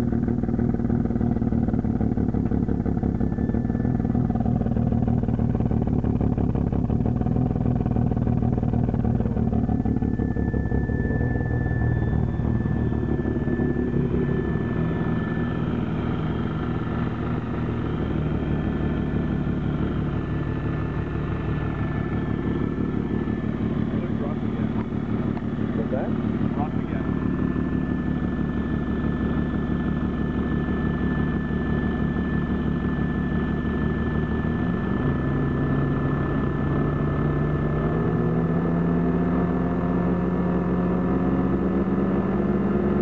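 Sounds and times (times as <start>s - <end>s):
rotary engine idling roughly: 0.0s - 43.0s.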